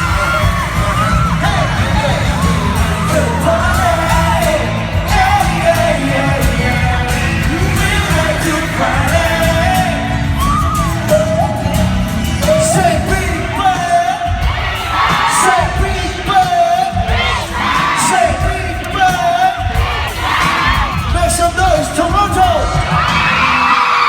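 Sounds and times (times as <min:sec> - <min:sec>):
fans yelling: 0:00.0 - 0:24.0
live pop song over pa: 0:00.0 - 0:24.0.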